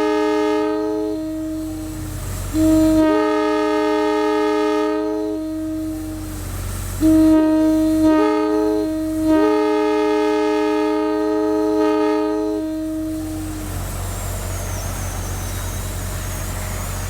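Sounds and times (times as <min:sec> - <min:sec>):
locomotive air horn chord: 0:00.0 - 0:17.0.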